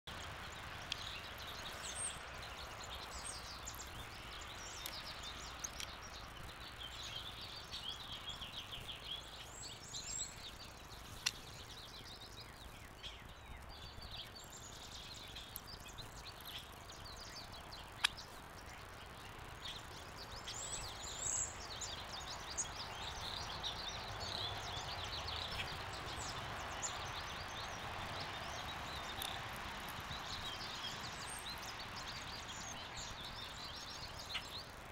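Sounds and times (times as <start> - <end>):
songbirds chirping and trilling: 0.1 - 34.9
steady outdoor hum: 0.1 - 34.9.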